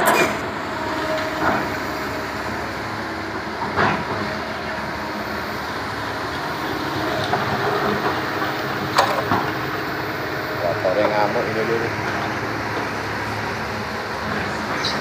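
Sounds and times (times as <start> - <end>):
excavator running: 0.0 - 15.0.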